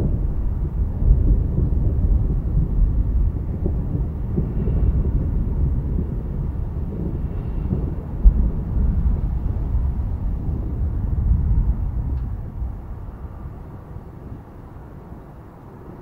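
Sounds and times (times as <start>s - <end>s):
distant thunder rumbling: 0.0s - 16.0s.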